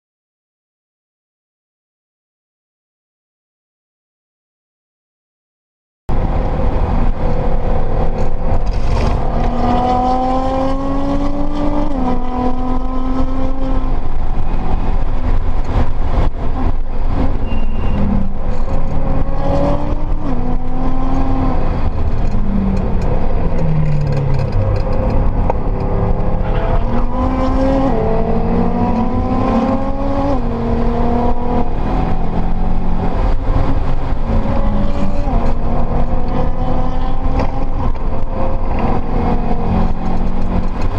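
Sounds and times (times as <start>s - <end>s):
turbocharged car engine revving: 6.1s - 40.9s.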